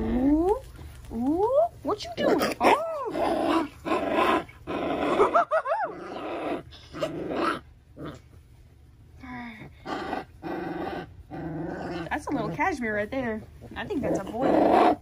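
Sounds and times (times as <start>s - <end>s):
puppies growling and whining: 0.0s - 8.4s, 9.2s - 12.7s, 13.4s - 15.0s.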